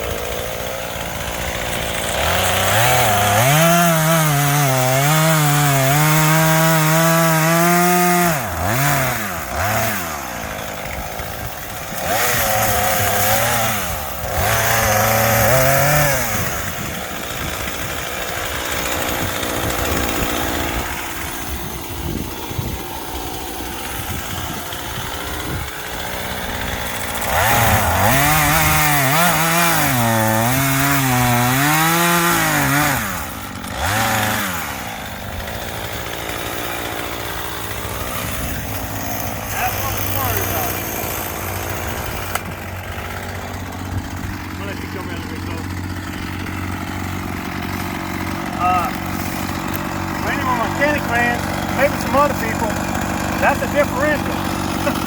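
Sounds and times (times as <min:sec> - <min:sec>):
chainsaw cutting logs: 0:00.0 - 0:55.0.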